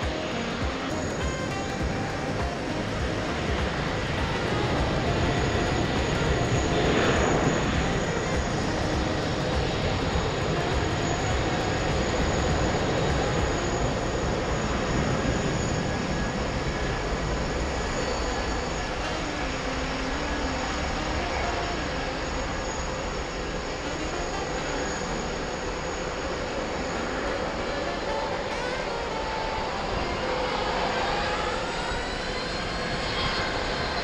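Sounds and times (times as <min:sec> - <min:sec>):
jet engines rumbling: 0:00.0 - 0:34.0.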